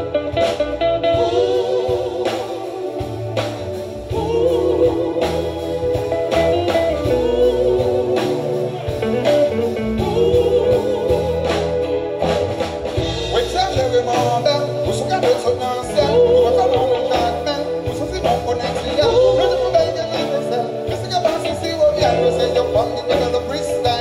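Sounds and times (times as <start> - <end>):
live band music: 0.0 - 24.0.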